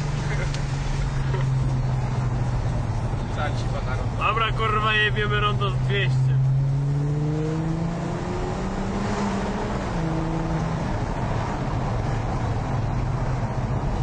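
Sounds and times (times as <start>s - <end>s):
car engine accelerating: 0.0s - 14.0s
road noise: 0.0s - 14.0s.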